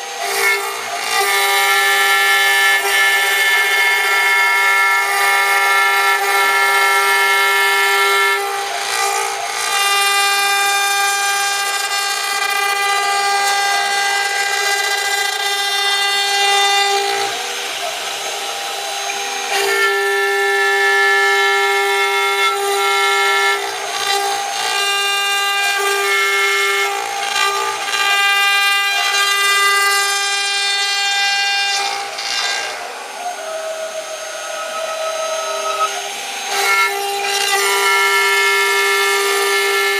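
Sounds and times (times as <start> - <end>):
cutting bit rasping wood: 0.0 - 39.9
router spindle whine: 0.0 - 39.9.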